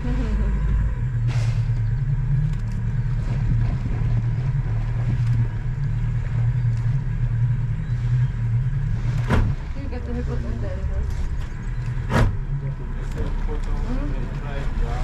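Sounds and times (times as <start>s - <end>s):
wind noise: 0.0s - 12.5s
boat engine droning: 0.0s - 15.0s
water noise: 0.0s - 15.0s.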